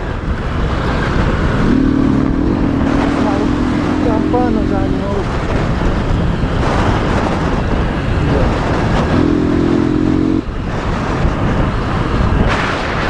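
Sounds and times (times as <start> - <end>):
motorcycle engine running: 0.0 - 12.4
wind rush on microphone: 0.0 - 13.0.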